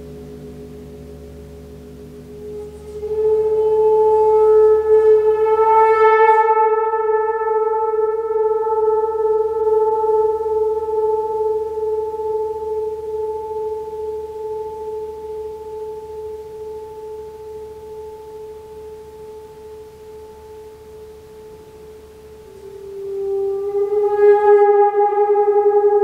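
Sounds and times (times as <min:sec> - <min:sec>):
gong humming: 0:00.0 - 0:26.0.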